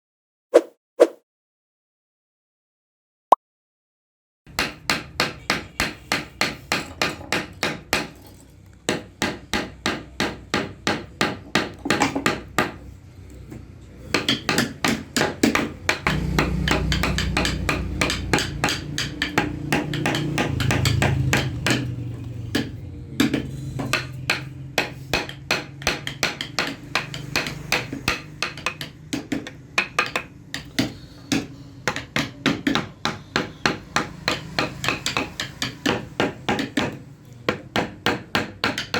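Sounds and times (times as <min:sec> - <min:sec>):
mallet striking chisel into wood: 0:04.5 - 0:08.1, 0:08.9 - 0:12.8, 0:14.1 - 0:21.9, 0:22.5 - 0:38.9.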